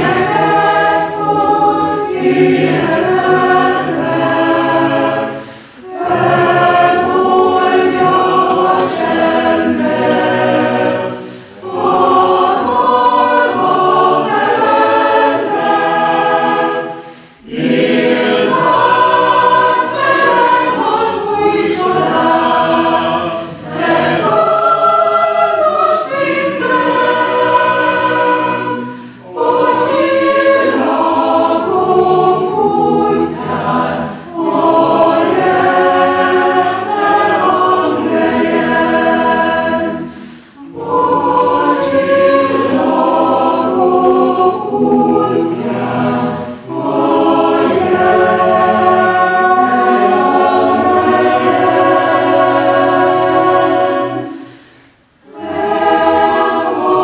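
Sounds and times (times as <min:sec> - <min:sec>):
chamber choir singing: 0:00.0 - 0:57.0.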